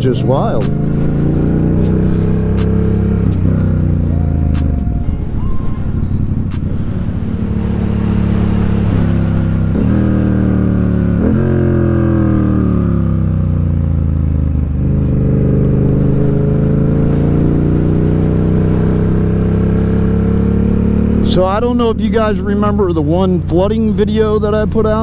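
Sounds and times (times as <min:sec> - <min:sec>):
motorcycle engine: 0:00.0 - 0:23.8.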